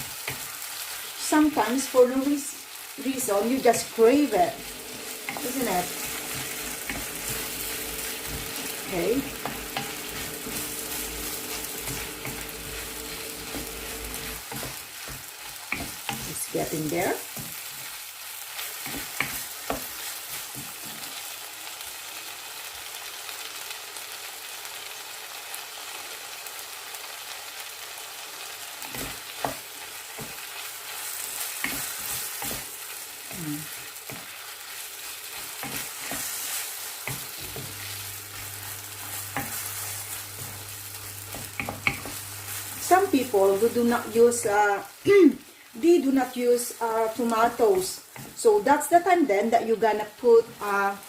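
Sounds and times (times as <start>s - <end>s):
food sizzling in a frying pan: 0.0s - 51.0s.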